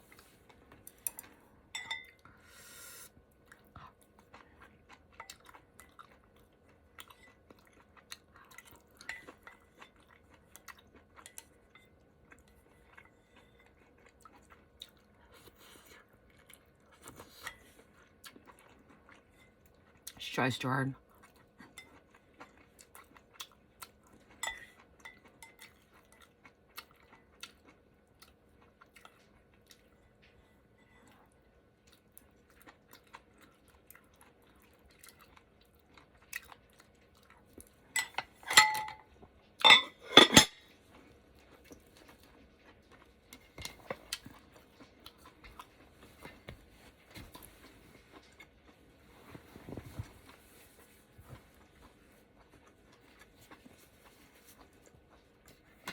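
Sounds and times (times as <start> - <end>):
chewing: 3.3 - 20.2, 21.0 - 39.6, 40.6 - 55.9.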